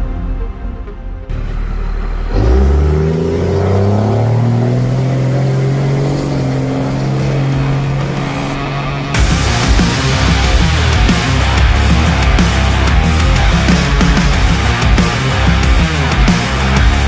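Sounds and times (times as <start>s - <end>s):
music playing: 0.0s - 17.0s
engine revving: 1.3s - 17.0s.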